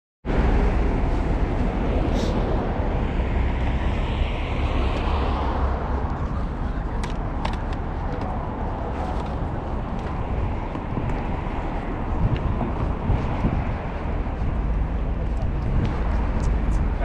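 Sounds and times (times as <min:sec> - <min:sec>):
city road traffic: 0:00.2 - 0:17.0
car passing: 0:00.3 - 0:17.0.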